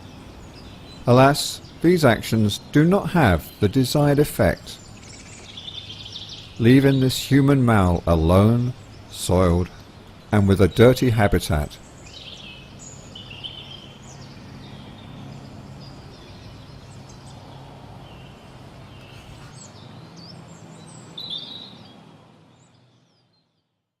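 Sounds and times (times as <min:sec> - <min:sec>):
small birds chirping: 0:00.0 - 0:23.8.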